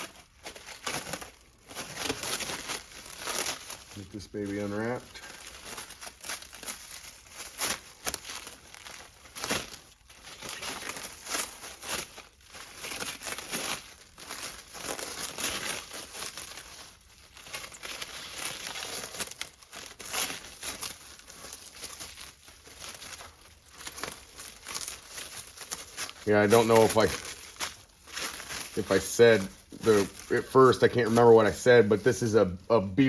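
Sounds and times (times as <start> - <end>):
cellophane crinkling and tearing: 0.0 - 33.0.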